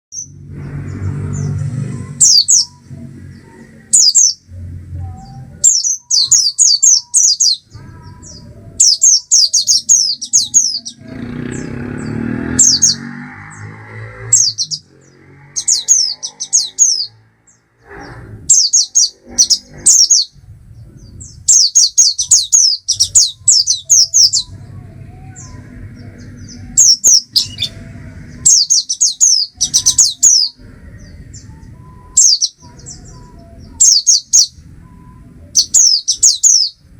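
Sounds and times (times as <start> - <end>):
bird chirping: 0.1 - 36.9
low background rumble: 0.2 - 11.6, 13.5 - 36.9.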